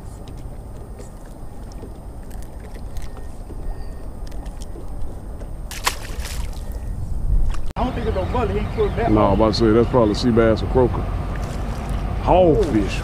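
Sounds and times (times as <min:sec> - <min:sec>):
low rumble of wind: 0:00.0 - 0:13.0
water around boat: 0:00.0 - 0:13.0.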